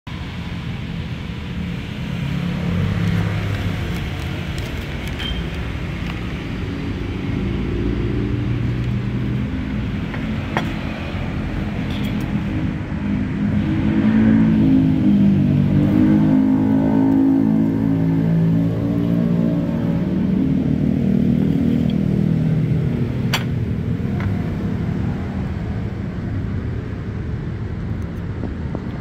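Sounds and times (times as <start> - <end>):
vehicle engines rumbling: 0.1 - 29.0.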